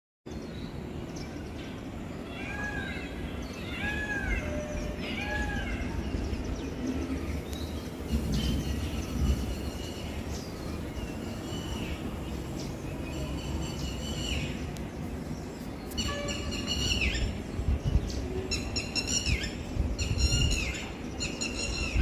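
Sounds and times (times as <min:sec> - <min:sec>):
wind noise: 0:02.5 - 0:22.0.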